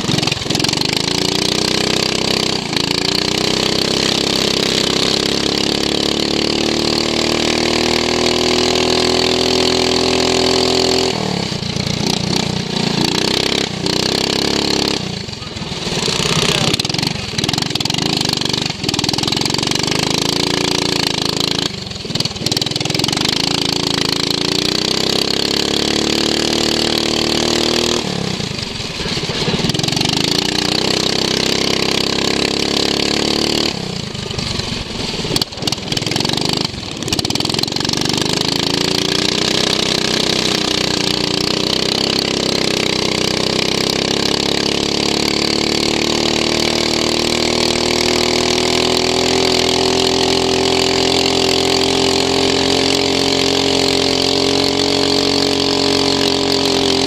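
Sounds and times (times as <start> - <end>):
lawn mower engine revving: 0.0 - 57.0.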